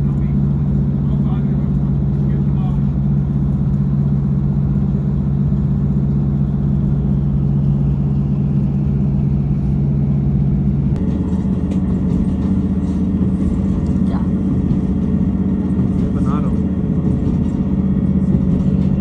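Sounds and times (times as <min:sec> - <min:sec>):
diesel train engine drone: 0:00.0 - 0:19.0.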